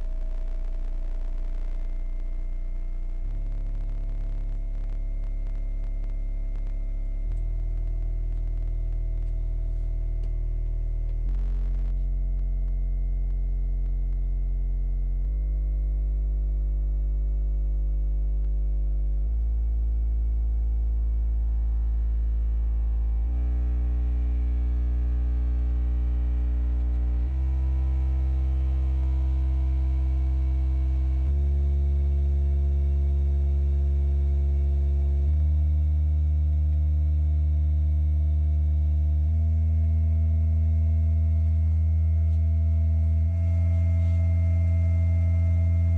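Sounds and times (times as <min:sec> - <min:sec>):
stepped bass test tones: 0:00.0 - 0:45.9.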